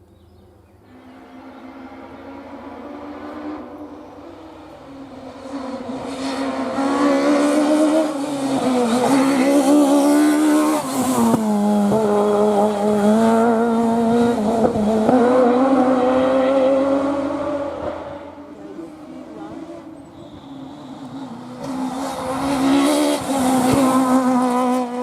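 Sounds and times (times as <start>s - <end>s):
rally car engine at high revs: 1.0s - 25.0s.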